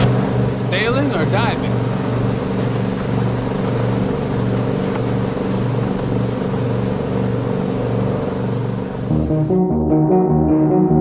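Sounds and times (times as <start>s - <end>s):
water rushing past hull: 0.0s - 9.3s
speedboat engine droning: 0.0s - 11.0s.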